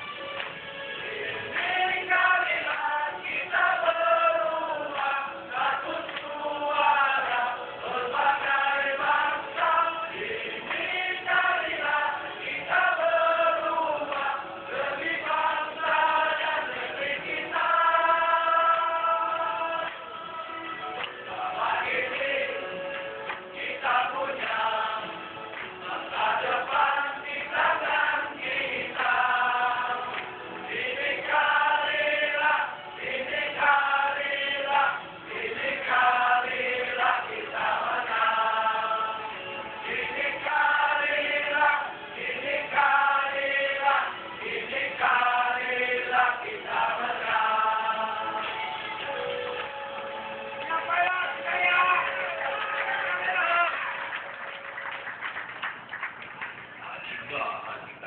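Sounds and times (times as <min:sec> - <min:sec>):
group singing over music: 0:00.0 - 0:53.8.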